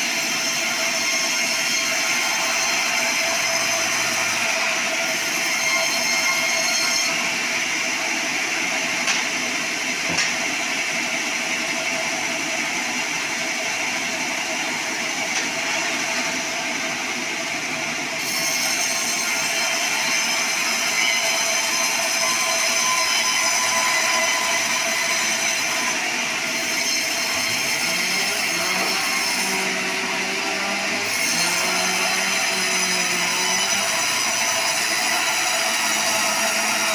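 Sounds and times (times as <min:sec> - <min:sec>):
band saw blade whining: 0:00.0 - 0:36.9.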